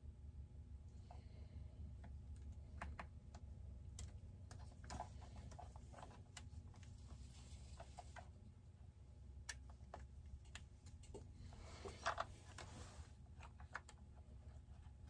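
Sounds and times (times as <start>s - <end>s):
low steady hum: 0.0s - 15.0s
small clicks and taps of parts: 1.0s - 8.3s, 9.4s - 12.7s, 13.3s - 15.0s.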